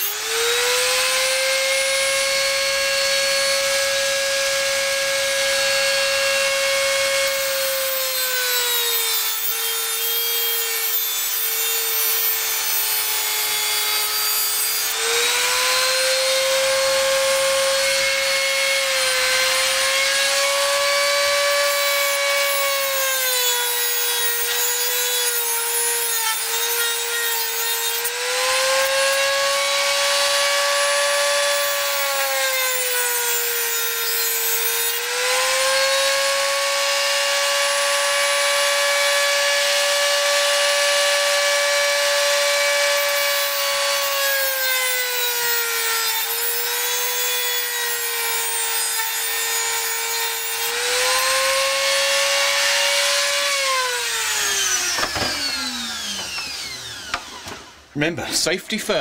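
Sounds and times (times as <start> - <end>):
rotary tool grinding metal screws: 6.0 - 36.2, 40.2 - 57.6.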